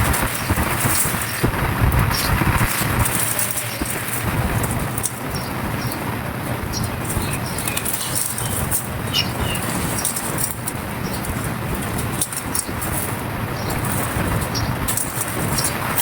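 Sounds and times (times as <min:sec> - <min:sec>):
dry material crackling by hand: 0:00.0 - 0:16.0.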